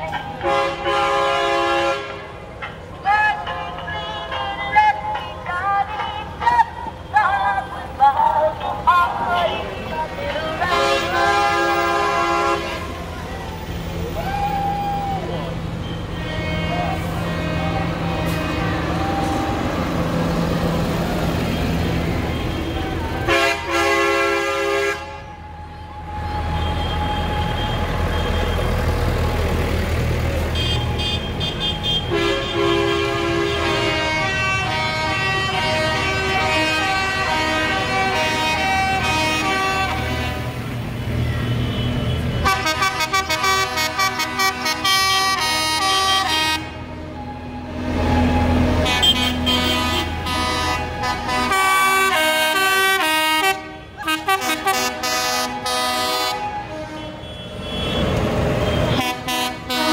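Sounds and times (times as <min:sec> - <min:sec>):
horns tooting: 0:00.0 - 0:59.9
tractor engines driving past: 0:00.0 - 0:59.9.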